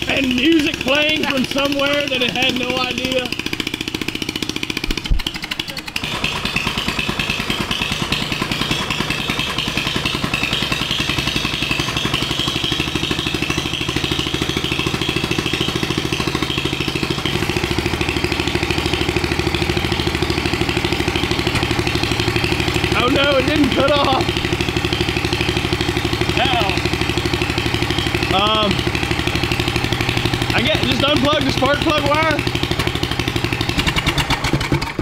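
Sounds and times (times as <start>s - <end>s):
engine idling rough: 0.0s - 35.0s.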